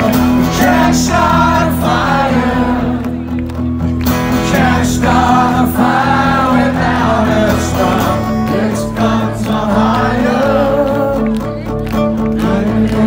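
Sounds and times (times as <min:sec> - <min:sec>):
man singing: 0:00.0 - 0:03.0, 0:04.4 - 0:11.6, 0:12.2 - 0:13.0
acoustic guitar: 0:00.0 - 0:13.0.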